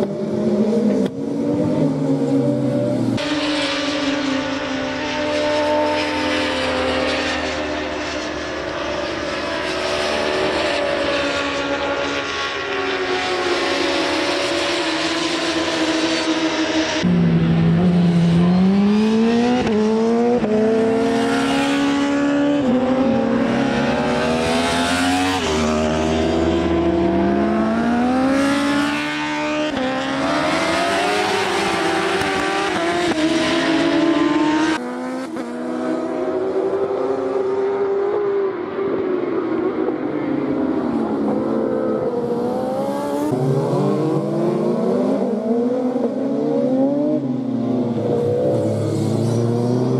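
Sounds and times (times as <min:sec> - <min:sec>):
racing motorbike engines accelerating: 0:00.0 - 0:49.9.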